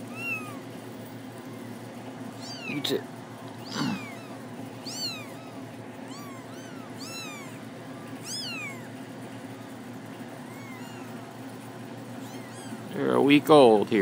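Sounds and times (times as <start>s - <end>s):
kittens mewing: 0.0s - 13.2s.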